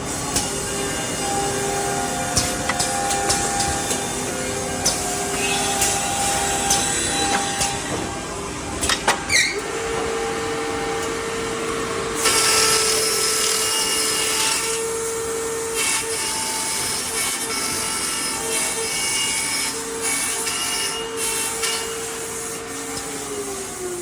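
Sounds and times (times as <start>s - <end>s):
loud wood cutting noise: 0.0s - 24.0s.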